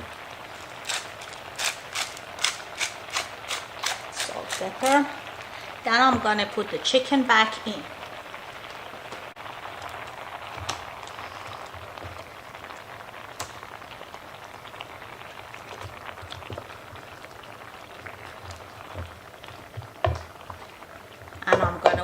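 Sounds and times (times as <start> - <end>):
sauce sizzling in a pan: 0.0 - 22.0
small crackles and pops: 0.0 - 22.0.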